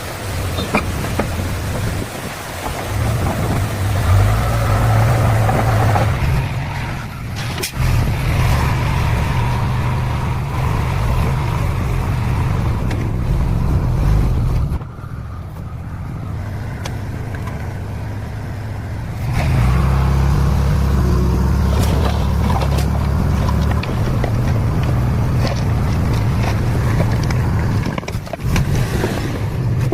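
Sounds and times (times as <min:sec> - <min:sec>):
heavy diesel engines rumbling: 0:00.0 - 0:29.9.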